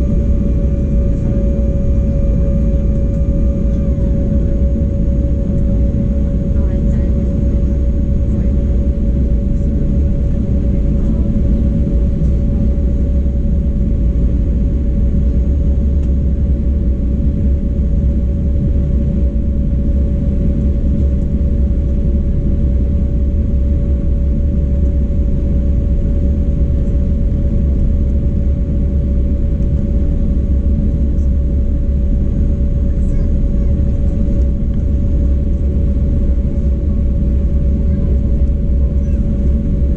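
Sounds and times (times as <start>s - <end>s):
aircraft cabin low rumble: 0.0s - 39.9s
mid-pitched engine whine: 0.0s - 39.9s.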